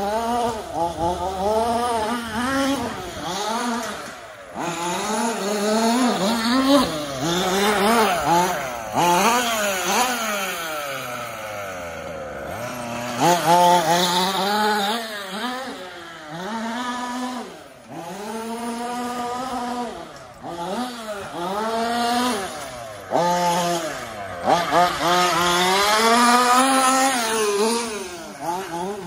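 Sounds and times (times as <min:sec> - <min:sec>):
toy car motor revving: 0:00.0 - 0:29.0.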